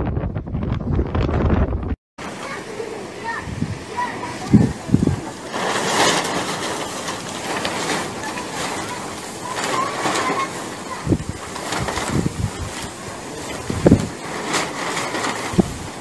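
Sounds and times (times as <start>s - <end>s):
storm wind roaring: 0.0s - 16.0s
wind buffeting microphone: 0.0s - 16.0s.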